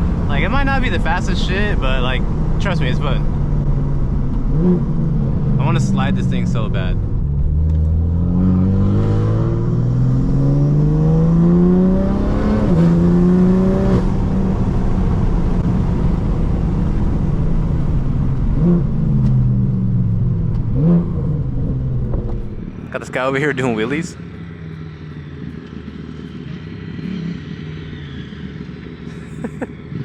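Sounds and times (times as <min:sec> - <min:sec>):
car engine accelerating: 0:00.0 - 0:30.0
road noise: 0:00.0 - 0:30.0.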